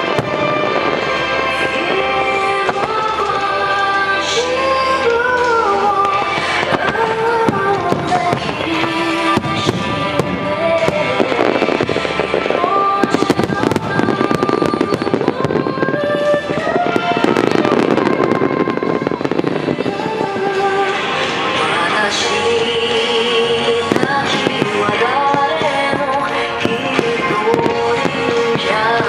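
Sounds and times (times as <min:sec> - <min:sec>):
fireworks bangs and crackling: 0:00.0 - 0:29.0
song playing: 0:00.0 - 0:29.0.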